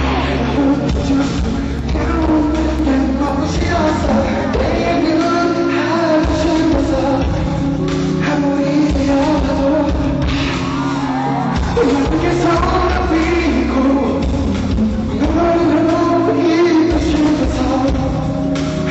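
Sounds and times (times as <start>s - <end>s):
live pop music with singer: 0.0s - 18.9s.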